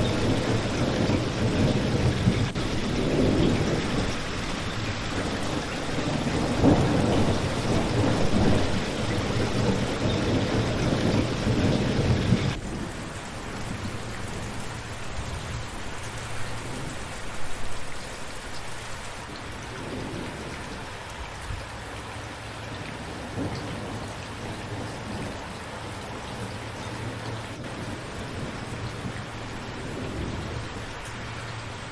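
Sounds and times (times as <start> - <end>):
thunder rumbling: 0.0 - 21.6, 22.8 - 31.9
steady rain falling: 0.0 - 31.9.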